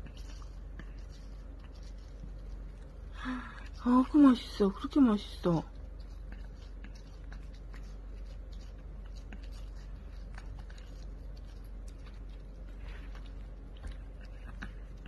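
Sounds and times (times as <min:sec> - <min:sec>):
dog chewing food: 0:00.0 - 0:15.0
low steady hum: 0:00.0 - 0:15.0.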